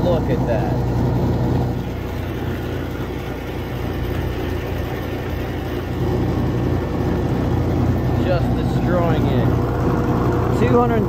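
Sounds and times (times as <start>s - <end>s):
electric motor humming under load: 0.0s - 11.0s.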